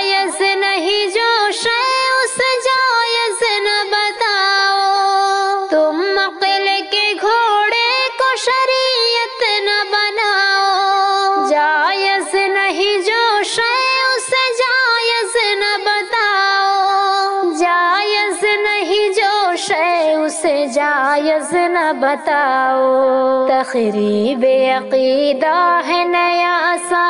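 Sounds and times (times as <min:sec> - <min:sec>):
high voice singing: 0:00.0 - 0:27.0.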